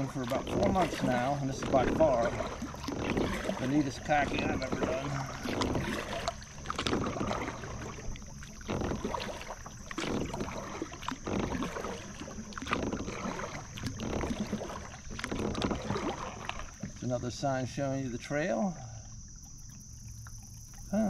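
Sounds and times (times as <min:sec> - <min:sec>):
kayak paddle strokes splashing: 0:00.0 - 0:21.0.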